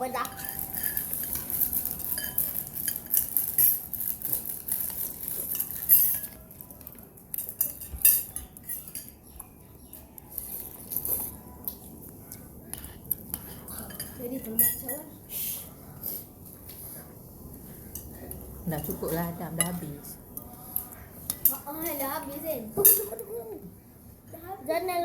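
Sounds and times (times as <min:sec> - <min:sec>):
cutlery clinking against a bowl: 0:00.1 - 0:15.1, 0:16.0 - 0:23.3.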